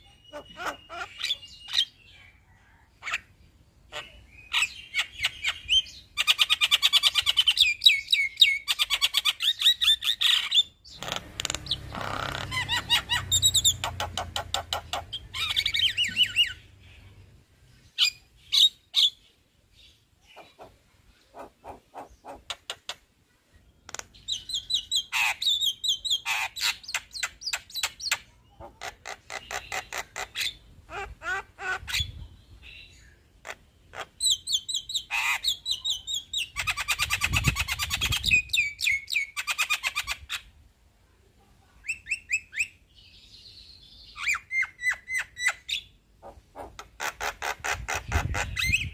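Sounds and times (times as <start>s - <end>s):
bird chattering and trilling: 0.0s - 2.3s, 2.9s - 17.2s, 17.9s - 23.0s, 23.9s - 40.5s, 44.0s - 48.9s.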